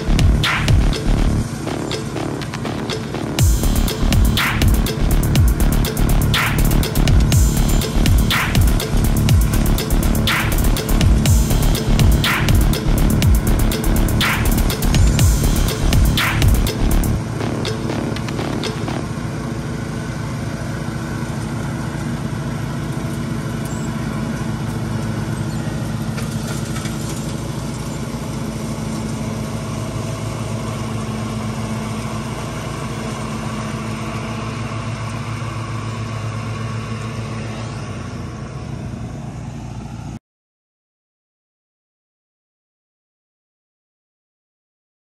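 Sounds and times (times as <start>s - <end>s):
mower and leaf vacuum engines: 0.0s - 40.2s.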